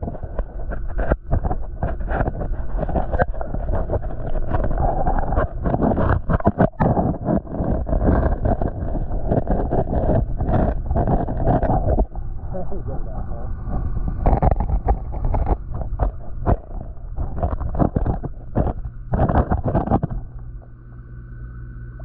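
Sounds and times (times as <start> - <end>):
muffled underwater rumbling: 0.0 - 22.0.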